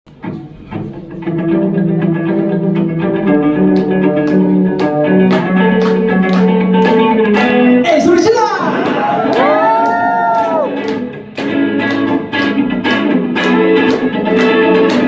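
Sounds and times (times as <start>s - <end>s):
guitar plucked notes: 0.1s - 15.0s.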